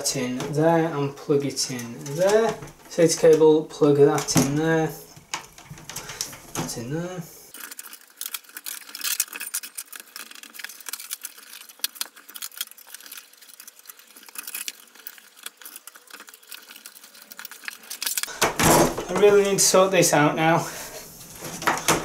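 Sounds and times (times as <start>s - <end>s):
cables clicking and rustling: 0.0s - 20.2s.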